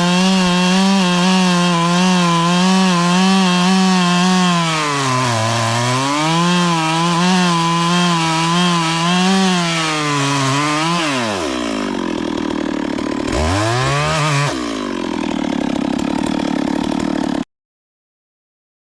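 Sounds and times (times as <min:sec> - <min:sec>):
chainsaw cutting wood: 0:00.0 - 0:17.5.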